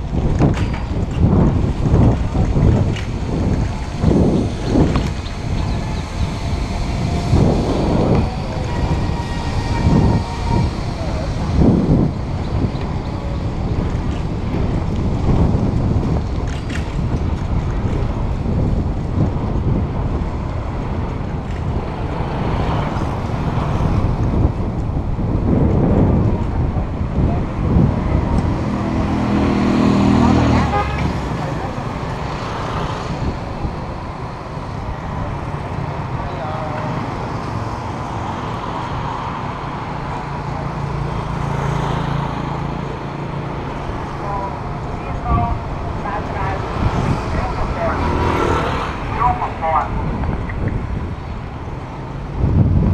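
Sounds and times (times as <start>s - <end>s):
motorbike and car engines: 0.0s - 52.9s
motorbike passing: 0.0s - 52.9s
road noise rush: 0.0s - 52.9s
wind buffeting microphone: 0.0s - 52.9s.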